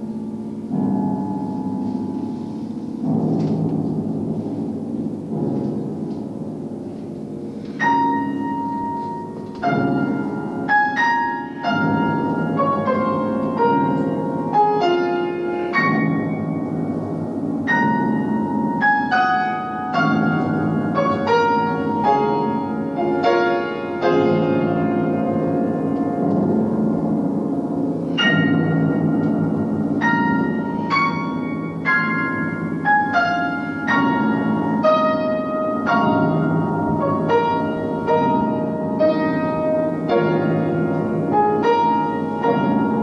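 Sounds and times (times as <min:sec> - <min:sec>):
grand piano playing: 0:00.0 - 0:43.0.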